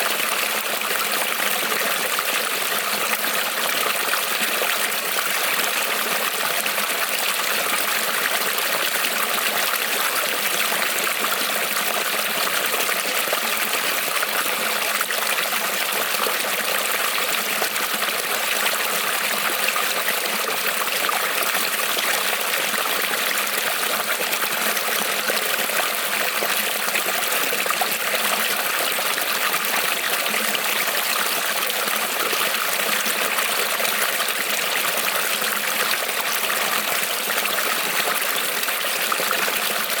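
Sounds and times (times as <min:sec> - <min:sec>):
creek trickling over stones: 0:00.0 - 0:40.0.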